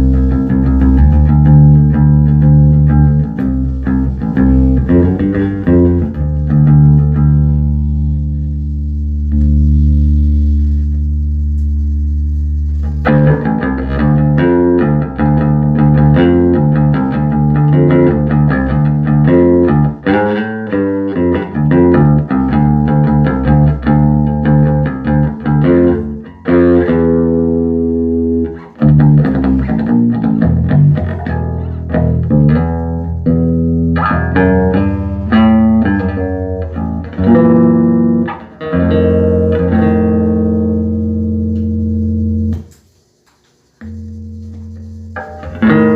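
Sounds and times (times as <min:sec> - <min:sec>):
electric bass playing: 0:00.0 - 0:42.9, 0:43.6 - 0:45.9.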